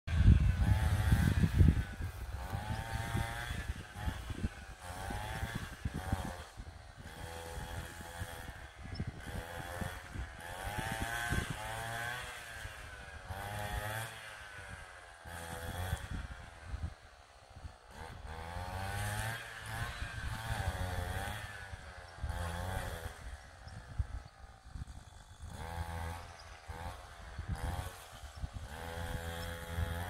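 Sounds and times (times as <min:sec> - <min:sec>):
small petrol engine revving: 0:00.1 - 0:30.0.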